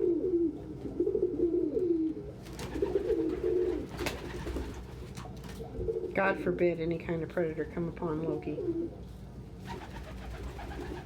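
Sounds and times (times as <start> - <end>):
pigeons cooing: 0.0 - 6.3, 8.4 - 11.0.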